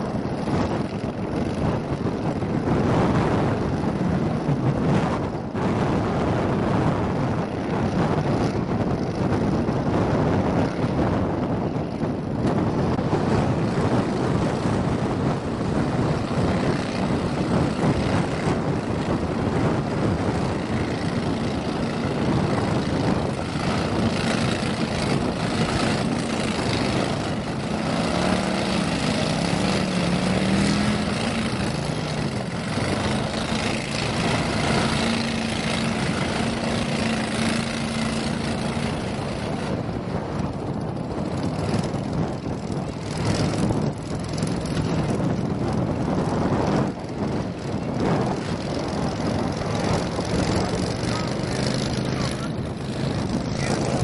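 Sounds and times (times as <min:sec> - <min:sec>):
boat motors droning: 0:00.0 - 0:54.0
rough water wash: 0:00.0 - 0:54.0.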